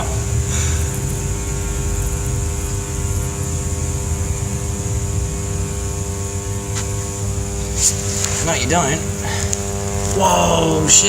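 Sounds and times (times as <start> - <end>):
transformer humming: 0.0 - 11.0.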